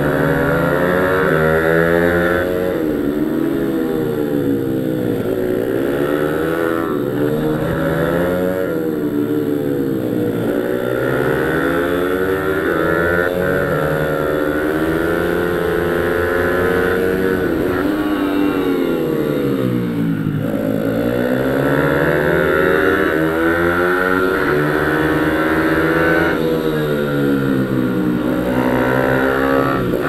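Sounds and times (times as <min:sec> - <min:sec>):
small motorbike engine revving: 0:00.0 - 0:30.0.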